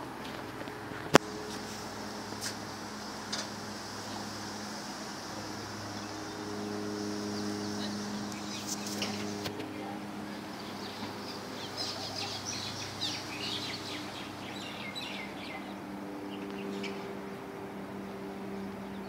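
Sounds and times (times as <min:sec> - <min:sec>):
low mechanical hum: 0:00.0 - 0:19.0
birds chirping: 0:00.7 - 0:19.0.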